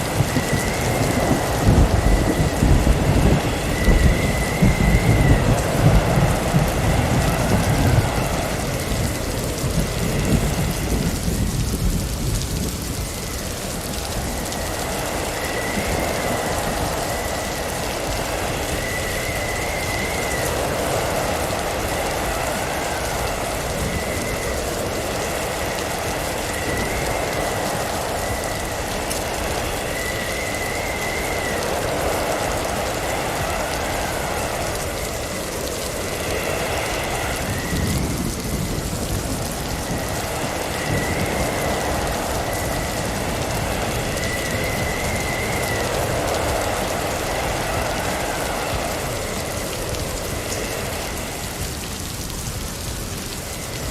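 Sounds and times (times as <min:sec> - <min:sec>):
wind and driven snow rushing: 0:00.0 - 0:53.9
thin wavering whistle: 0:00.1 - 0:10.9, 0:13.0 - 0:51.6.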